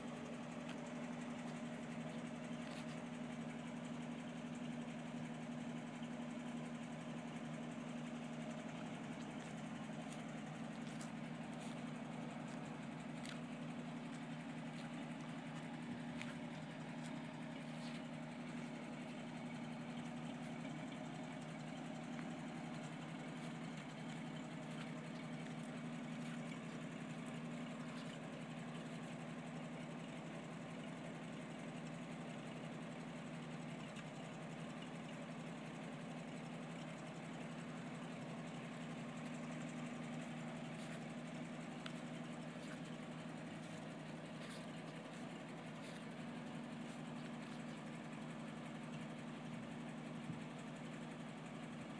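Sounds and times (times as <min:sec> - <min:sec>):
car engine idling: 0:00.0 - 0:51.9.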